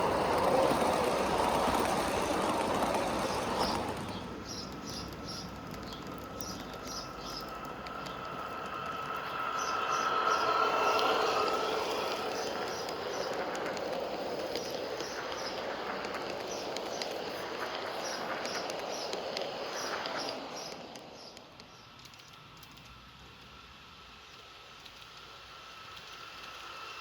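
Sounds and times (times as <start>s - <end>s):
model train rolling on track: 0.0s - 27.0s.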